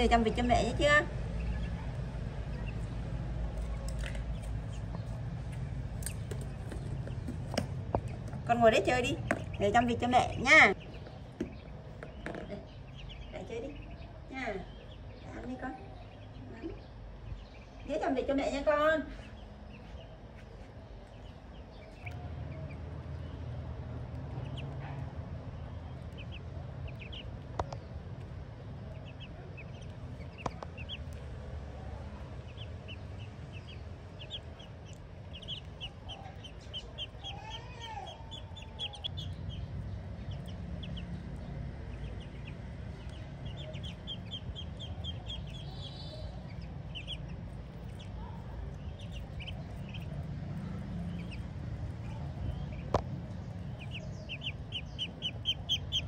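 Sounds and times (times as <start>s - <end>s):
ducklings peeping: 0.0s - 56.0s
steady low hum: 0.0s - 56.0s.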